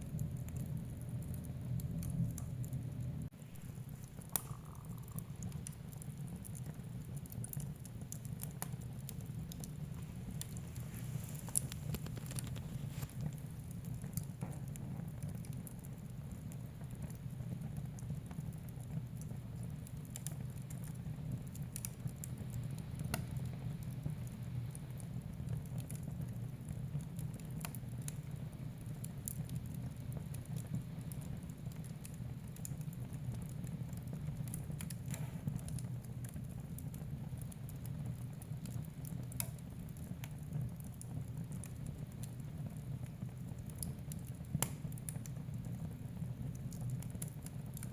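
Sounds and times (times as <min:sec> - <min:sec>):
fire flames rumbling: 0:00.0 - 0:47.9
wood fire crackling and popping: 0:00.0 - 0:47.9.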